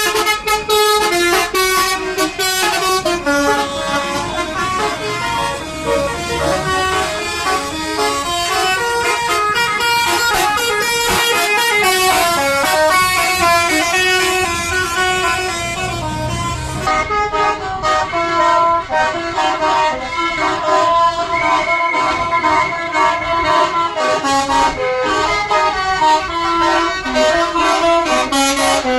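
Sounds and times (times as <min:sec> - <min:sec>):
musical bus air horns: 0:00.0 - 0:28.9.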